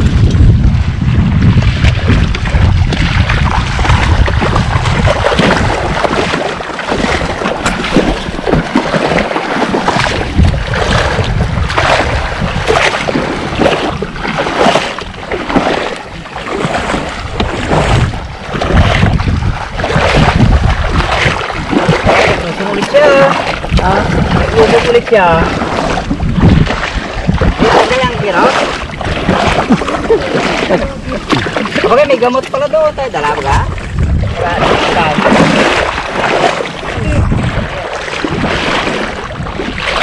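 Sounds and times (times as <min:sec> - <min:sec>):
water sloshing and splashing: 0:00.0 - 0:40.0
wind buffeting microphone: 0:00.0 - 0:40.0.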